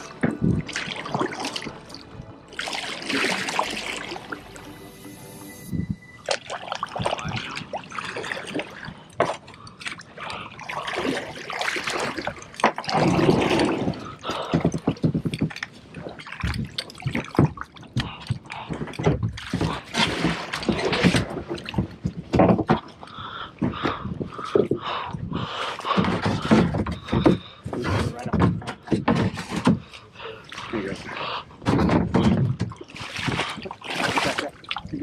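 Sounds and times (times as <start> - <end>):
water splashing and sloshing: 0.0 - 35.0.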